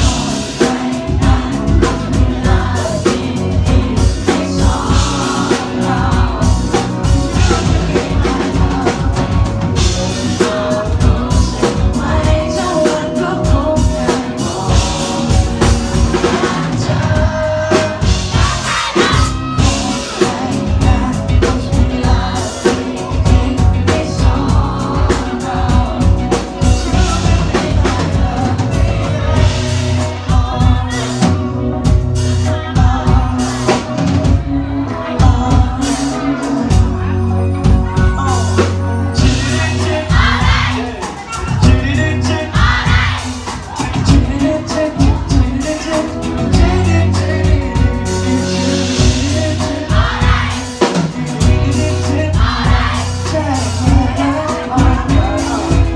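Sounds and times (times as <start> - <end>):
live pop band playing: 0.0 - 55.9
person singing: 0.0 - 55.9.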